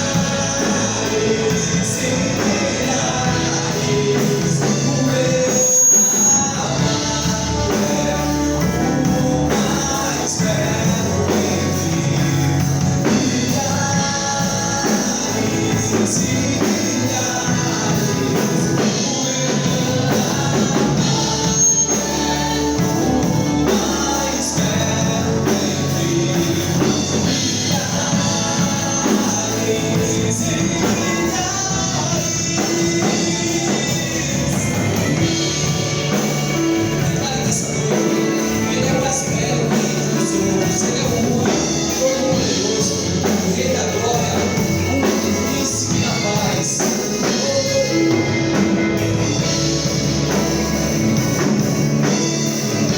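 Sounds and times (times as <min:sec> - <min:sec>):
person singing: 0:00.0 - 0:52.9
worship band playing: 0:00.0 - 0:52.9.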